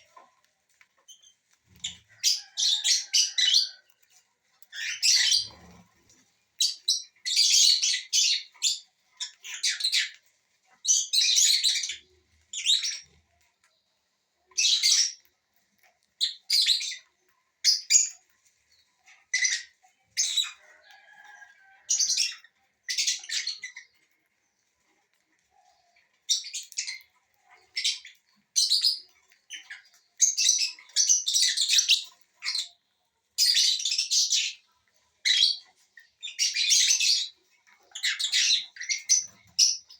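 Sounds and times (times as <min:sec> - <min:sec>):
parrots chirping and squawking: 0:00.0 - 0:13.6, 0:14.5 - 0:39.9.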